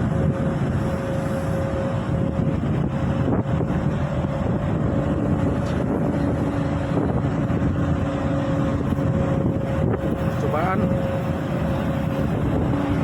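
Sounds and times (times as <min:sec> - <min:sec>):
constant machine whine: 0:00.0 - 0:13.0
lower machine whine: 0:00.0 - 0:13.0
machinery low drone: 0:00.0 - 0:13.0.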